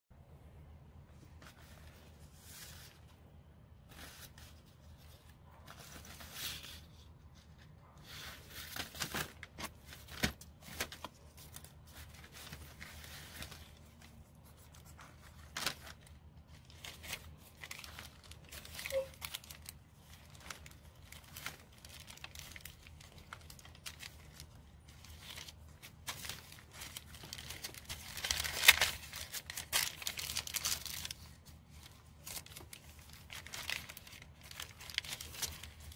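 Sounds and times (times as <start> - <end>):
paper pages rustling: 1.2 - 3.2, 3.8 - 35.9.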